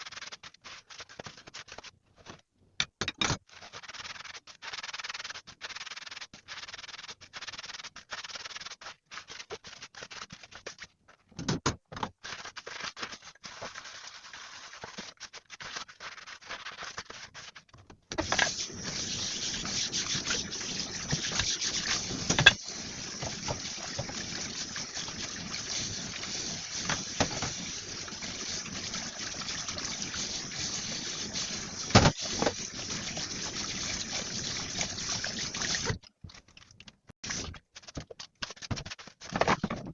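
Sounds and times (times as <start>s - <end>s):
rubbing and splashing: 3.5s - 11.3s, 12.2s - 39.9s.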